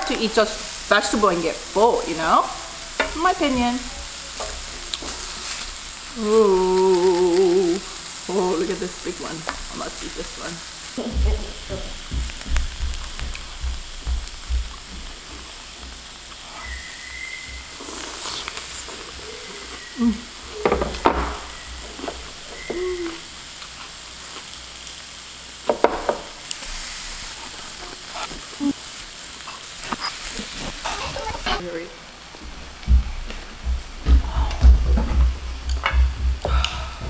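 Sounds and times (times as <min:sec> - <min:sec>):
zucchini sizzling on grill pan: 0:00.0 - 0:37.0.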